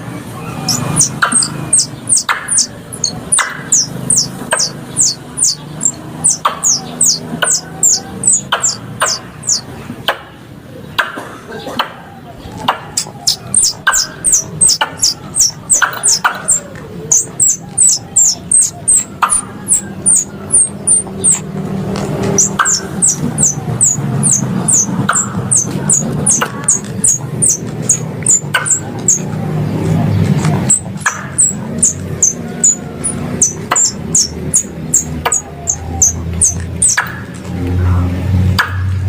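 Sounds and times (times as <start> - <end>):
squirrel lure call chirps: 0.5 - 9.7, 12.9 - 29.3, 30.6 - 37.4.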